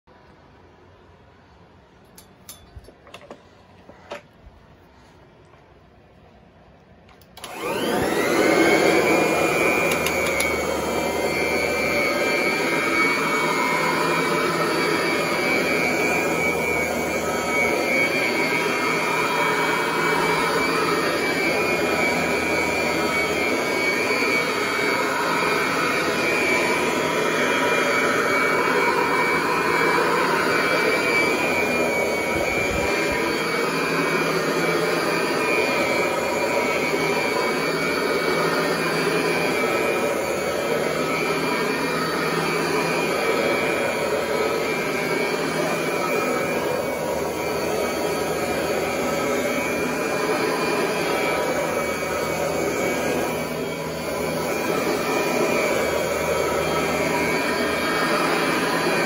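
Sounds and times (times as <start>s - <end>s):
vacuum cleaner running on carpet: 7.3s - 59.0s.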